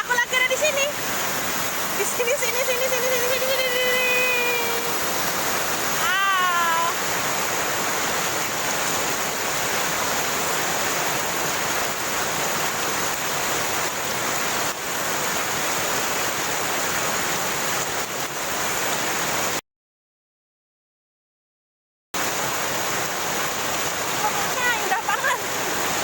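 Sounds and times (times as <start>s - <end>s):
waterfall rushing: 0.0s - 19.6s, 22.2s - 26.0s.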